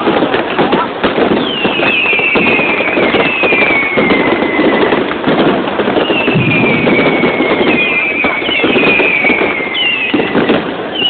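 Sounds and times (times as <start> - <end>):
fireworks crackling pops: 0.0 - 11.0
fireworks whistles falling in pitch: 1.1 - 11.0.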